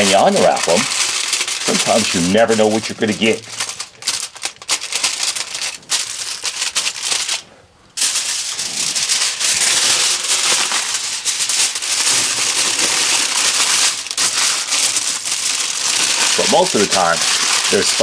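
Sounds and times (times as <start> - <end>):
aluminium foil crinkling: 0.0 - 18.0.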